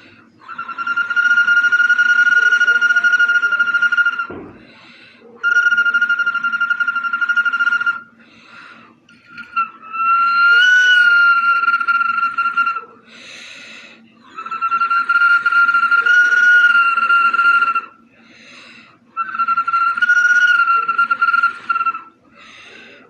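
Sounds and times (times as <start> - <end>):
breathy bottle whistle tones: 0.0 - 8.2, 9.1 - 12.9, 14.2 - 23.0.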